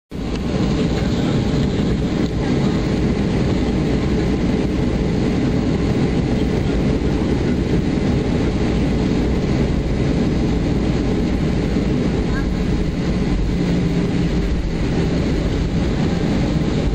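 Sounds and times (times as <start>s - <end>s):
jet engines and wheels rumbling: 0.1s - 16.9s.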